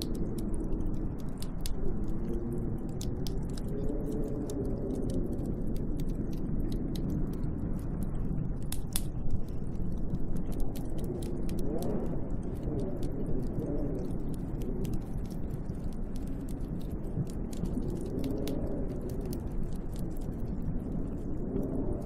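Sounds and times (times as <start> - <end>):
howling snowstorm wind: 0.0 - 22.0
sharp clicks and crackles: 0.0 - 22.0.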